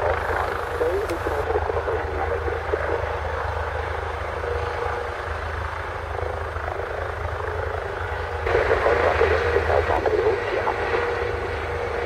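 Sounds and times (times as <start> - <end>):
helicopter hovering: 0.0 - 12.0
pulsing low rotor rumble: 0.0 - 12.0.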